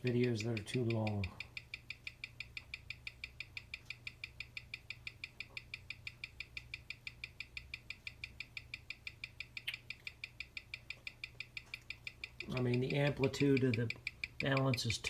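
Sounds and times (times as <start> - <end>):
watch ticking: 0.0 - 15.0.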